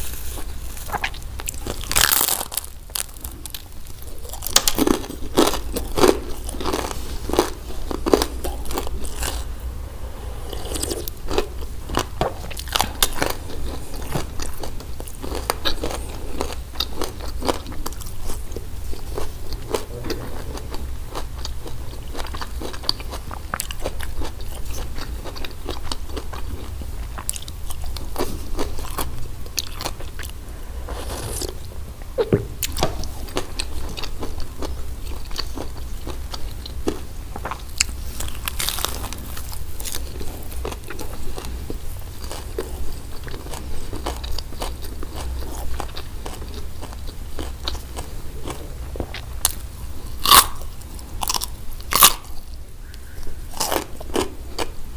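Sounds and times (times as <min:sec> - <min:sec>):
crunchy chewing: 0:00.0 - 0:09.5, 0:10.4 - 0:54.9.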